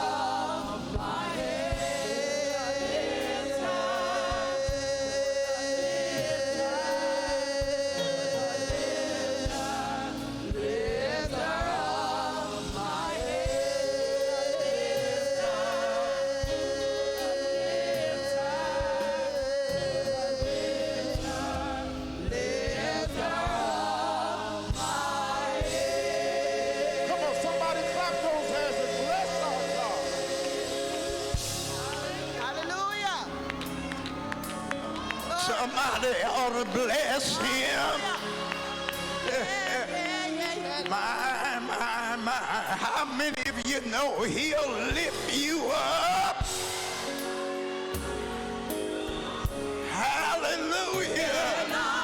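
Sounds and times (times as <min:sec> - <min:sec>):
band accompaniment: 0:00.0 - 0:52.0
choir and congregation singing: 0:00.0 - 0:52.0.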